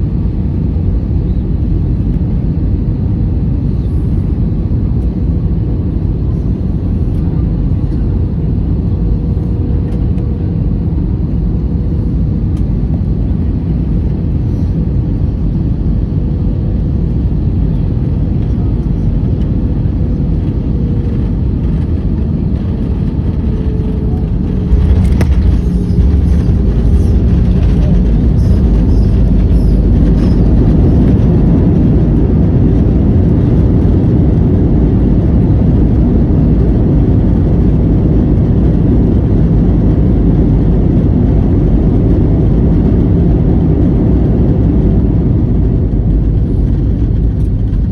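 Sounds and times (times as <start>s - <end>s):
airliner engine and airflow rumble: 0.0s - 47.9s
faint engine whine: 0.0s - 47.9s.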